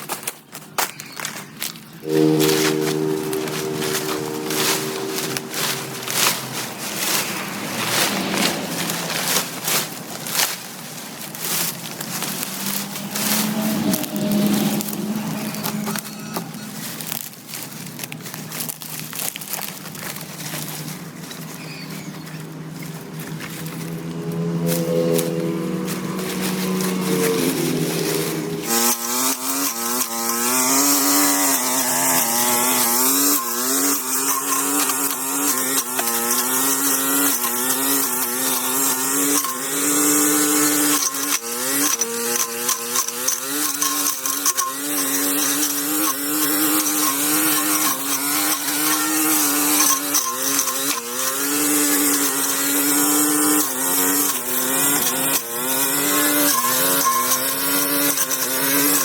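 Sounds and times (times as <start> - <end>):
handheld power tool engine revving: 2.0 - 59.0.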